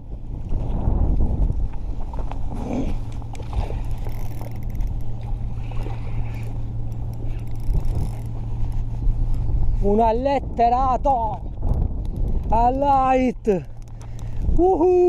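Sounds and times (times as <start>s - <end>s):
low engine hum: 0.0s - 15.0s
rumbling background: 0.0s - 15.0s.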